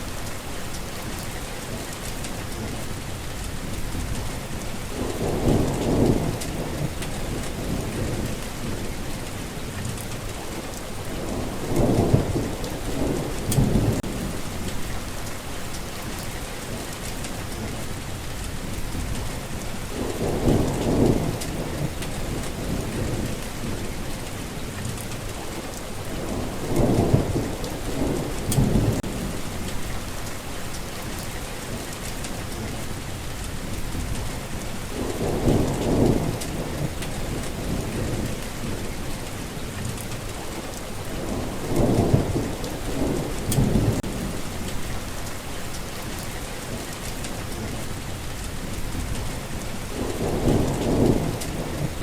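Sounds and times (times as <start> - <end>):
heavy rain falling: 0.0 - 52.0
thunder rumbles: 3.5 - 52.0.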